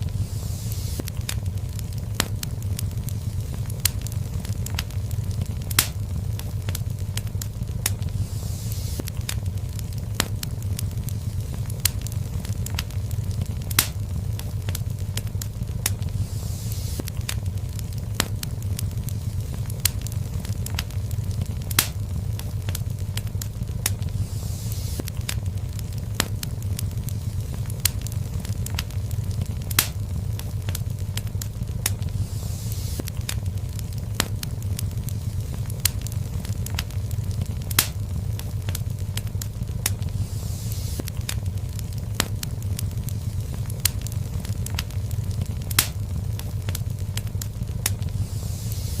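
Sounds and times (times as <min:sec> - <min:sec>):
fire crackling in fireplace: 0:00.0 - 0:49.0.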